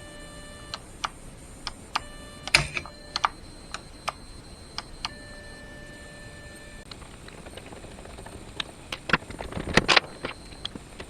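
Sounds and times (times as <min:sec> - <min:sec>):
electric motor whine: 0:00.0 - 0:01.1, 0:01.9 - 0:11.0.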